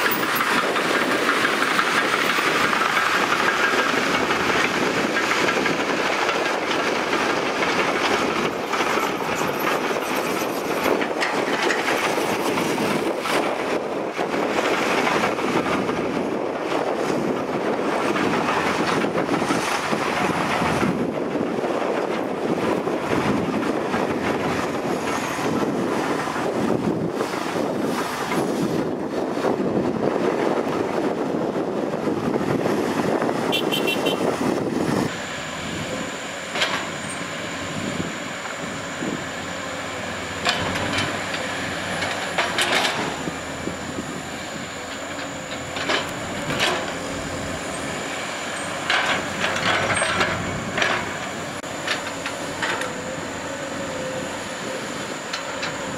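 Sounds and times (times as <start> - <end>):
excavator diesel engine whining: 0.0 - 55.9.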